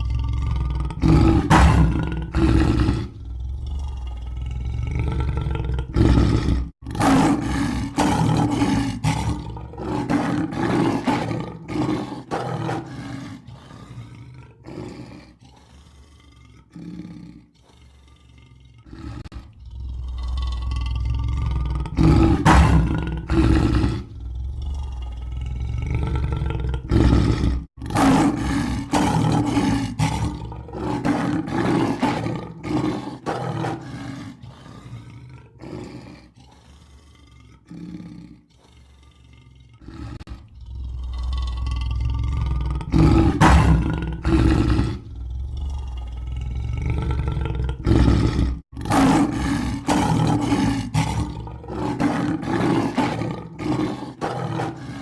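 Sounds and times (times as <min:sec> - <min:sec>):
lion roaring and growling: 0:00.0 - 0:55.0.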